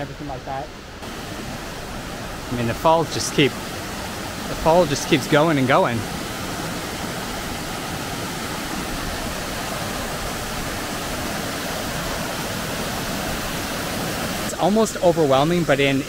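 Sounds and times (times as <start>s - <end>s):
waterfall roaring over rocks: 0.0s - 16.0s.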